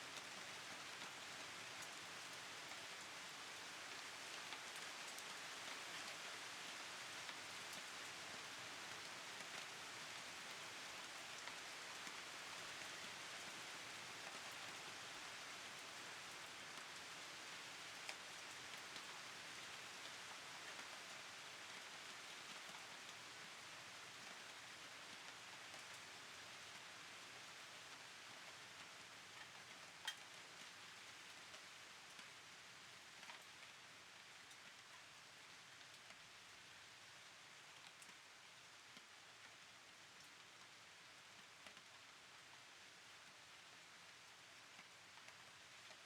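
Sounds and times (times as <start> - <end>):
steady rain patter: 0.0 - 46.0.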